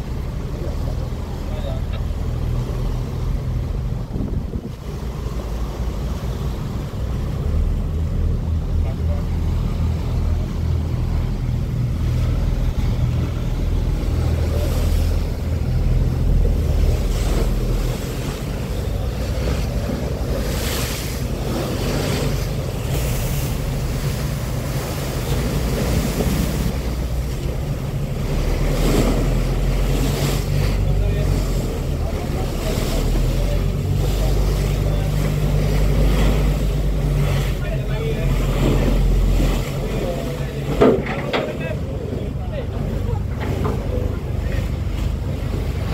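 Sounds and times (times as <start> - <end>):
boat engine running: 0.0 - 45.9
churning water and spray: 0.0 - 45.9
loud water splashes: 0.0 - 45.9
wind buffeting microphone: 3.5 - 5.3, 10.2 - 45.9.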